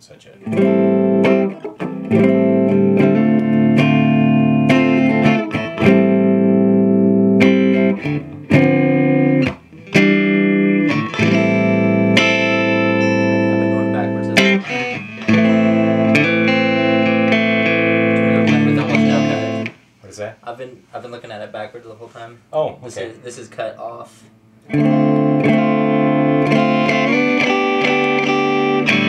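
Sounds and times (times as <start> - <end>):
electric guitar chords ringing: 0.4 - 19.8, 22.9 - 29.0.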